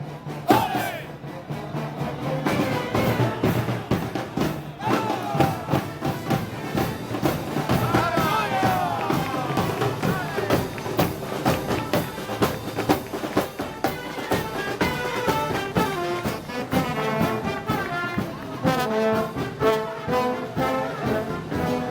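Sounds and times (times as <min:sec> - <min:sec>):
brass band playing: 0:00.0 - 0:21.9
sliding brass notes: 0:00.0 - 0:21.9
steady drumbeat: 0:00.0 - 0:21.9.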